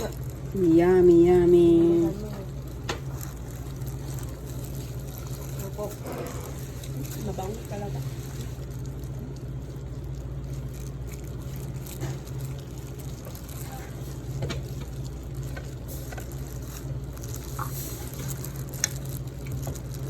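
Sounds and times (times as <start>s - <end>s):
room background hum: 0.0s - 20.0s.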